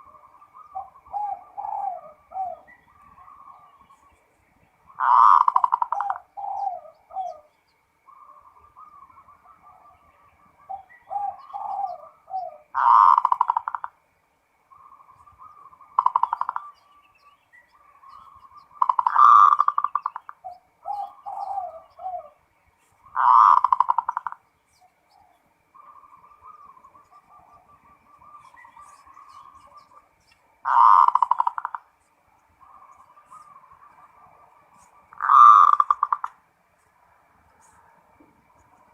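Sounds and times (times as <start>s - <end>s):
dove cooing: 0.0s - 14.0s, 14.7s - 17.0s, 17.7s - 36.9s.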